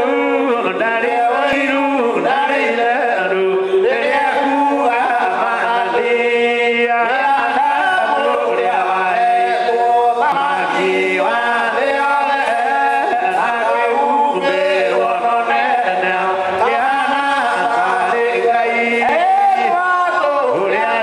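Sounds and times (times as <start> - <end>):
men singing a hymn: 0.0 - 21.0.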